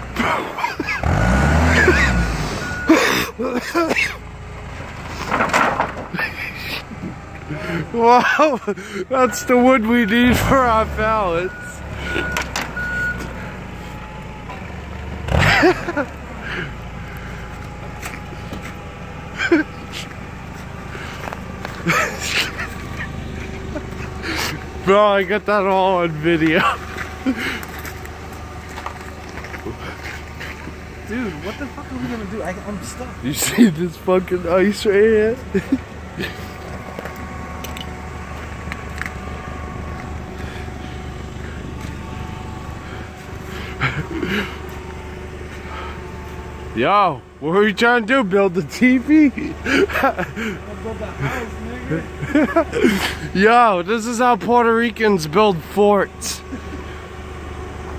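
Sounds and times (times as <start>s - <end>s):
forklift engine running: 0.0s - 57.9s.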